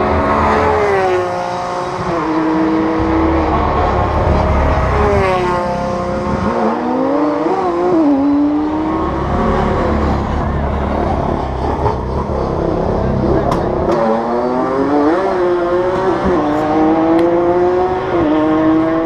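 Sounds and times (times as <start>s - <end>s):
engine pitch wavering and climbing: 0.0s - 19.0s
race car engines passing: 0.0s - 19.0s.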